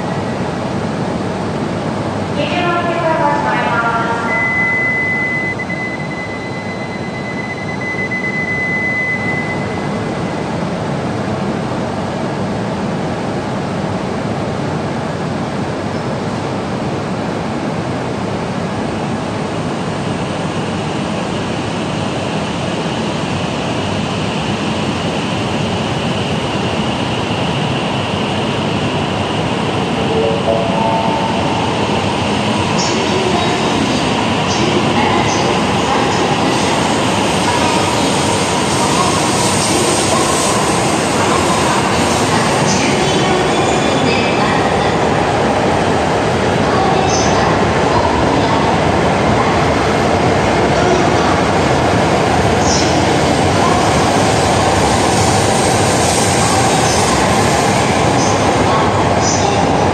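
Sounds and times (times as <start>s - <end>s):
high-speed train rolling past: 0.0s - 59.9s.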